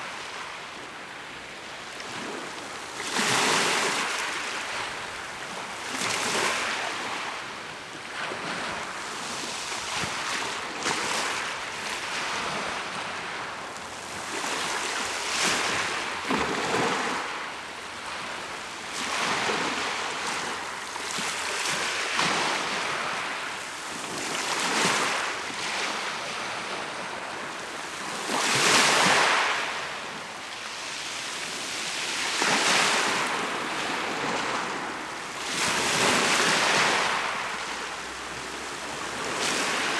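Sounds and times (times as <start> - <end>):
waves breaking on shore: 1.9 - 39.9.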